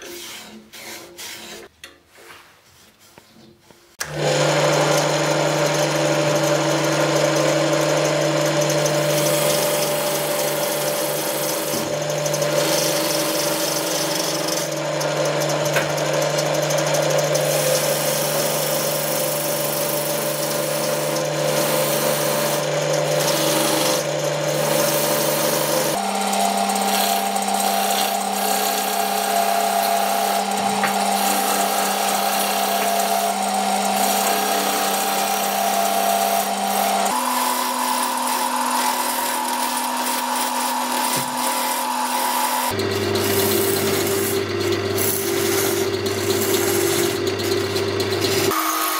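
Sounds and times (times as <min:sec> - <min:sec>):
turning tool scraping wood: 0:00.0 - 0:48.9
wood lathe motor whine: 0:04.0 - 0:48.9.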